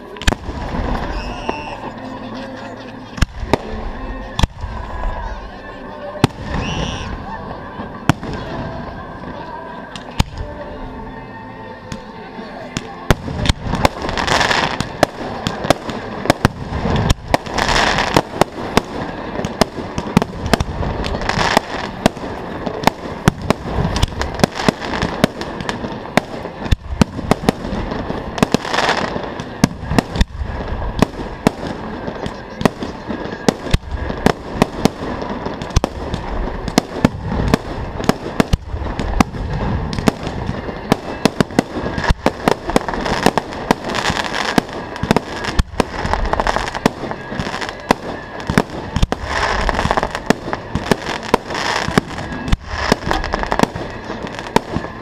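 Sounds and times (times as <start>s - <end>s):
fireworks bangs: 0.0s - 2.4s, 3.1s - 10.6s, 12.8s - 55.0s
fireworks crackling: 0.0s - 11.0s, 11.8s - 55.0s.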